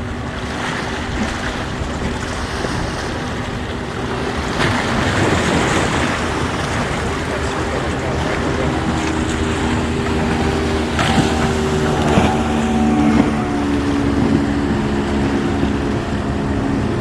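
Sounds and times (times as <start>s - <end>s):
strong wind on microphone: 0.0s - 17.0s
surf: 0.0s - 17.0s.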